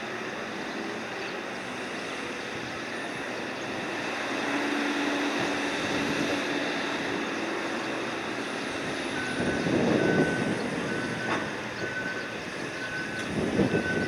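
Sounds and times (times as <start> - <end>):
crane engine and winch humming: 0.0 - 14.0.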